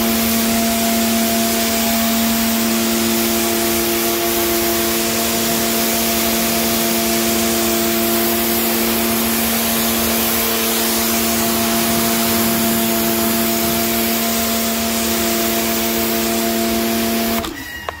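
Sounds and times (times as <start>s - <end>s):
water jet hissing on paving: 0.0s - 17.6s
pressure washer pump humming: 0.0s - 18.0s.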